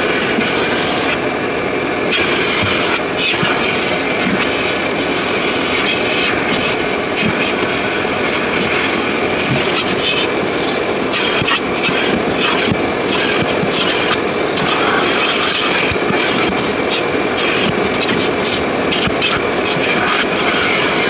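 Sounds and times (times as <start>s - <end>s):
vacuum hose sucking air: 0.0s - 21.0s.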